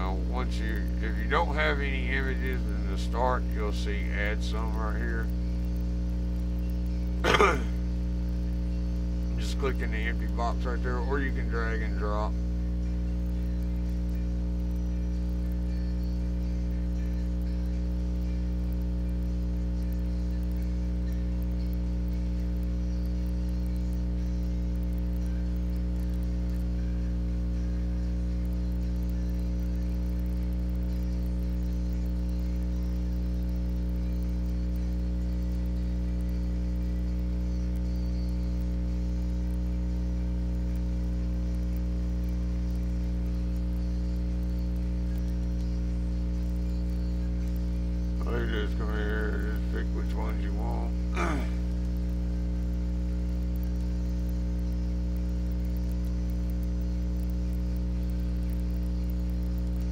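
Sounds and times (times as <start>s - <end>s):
buzzy electrical mains hum: 0.0s - 59.9s.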